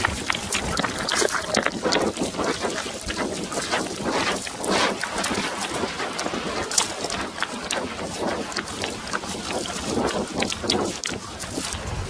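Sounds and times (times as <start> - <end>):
grass and bushes rustling: 0.0 - 12.0.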